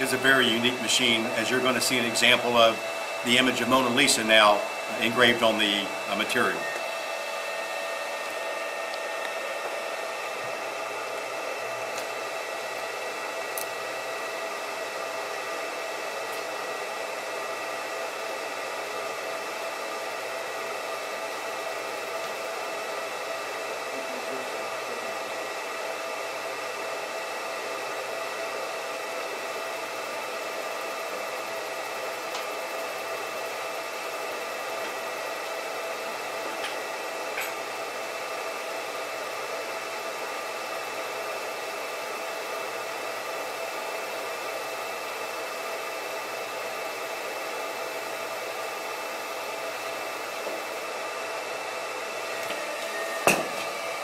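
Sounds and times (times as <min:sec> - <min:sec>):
laser marking machine whirring: 0:00.0 - 0:54.0.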